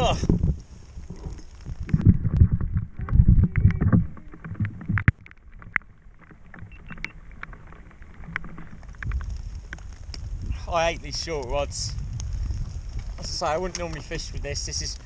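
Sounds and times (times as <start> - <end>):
low thuds and rustling: 0.1 - 14.6
scattered clicks and ticks: 1.2 - 15.0.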